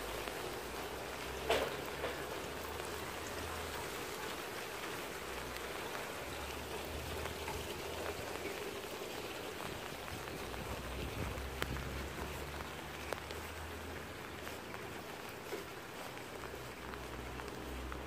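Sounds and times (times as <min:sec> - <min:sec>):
rain on asphalt and puddles: 0:00.0 - 0:18.0.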